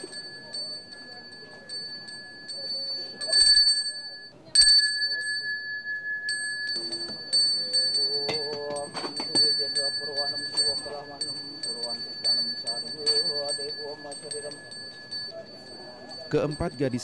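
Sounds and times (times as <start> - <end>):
high-pitched hand bell ringing: 0.0 - 17.0.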